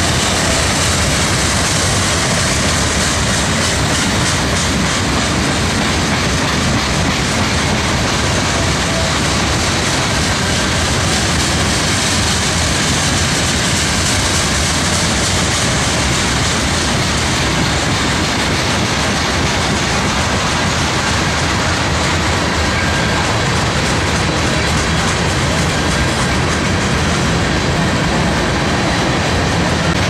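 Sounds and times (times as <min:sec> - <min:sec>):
freight train wheels rumbling on rails: 0:00.0 - 0:30.0.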